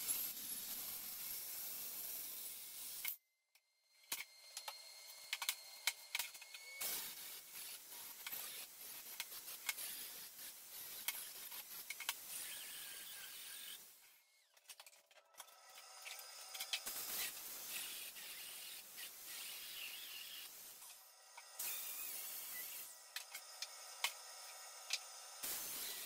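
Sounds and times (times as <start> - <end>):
metal-cutting saw cutting steel: 4.0 - 14.5, 15.4 - 26.0.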